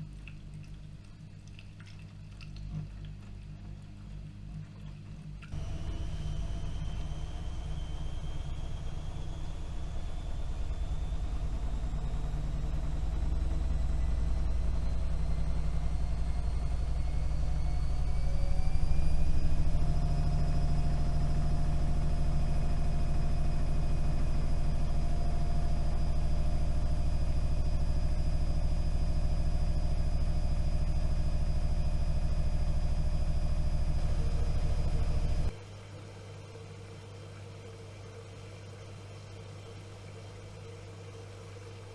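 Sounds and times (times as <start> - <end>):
washing machine motor whine: 5.3 - 41.9.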